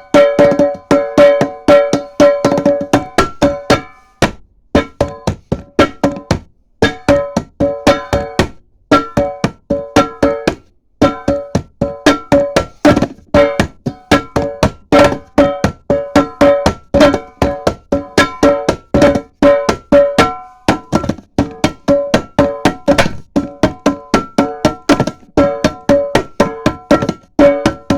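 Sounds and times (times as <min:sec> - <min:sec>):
coffee cans drummed: 0:00.0 - 0:27.9.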